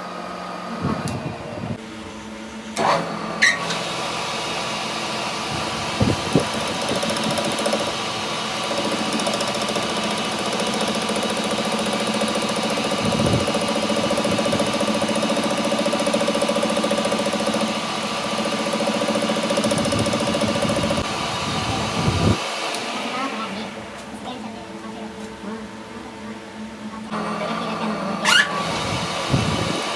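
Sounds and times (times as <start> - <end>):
workshop machine running: 0.0 - 29.9.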